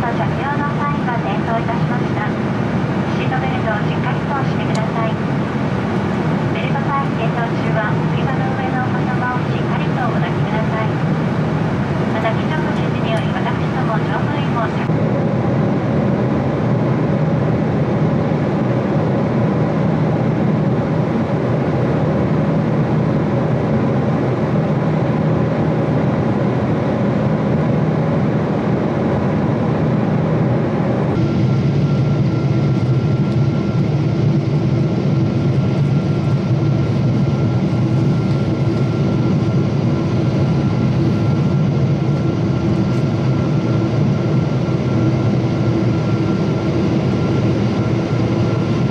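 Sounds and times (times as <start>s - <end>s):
jet engine hum: 0.0s - 48.9s
steady high whine: 0.0s - 48.9s.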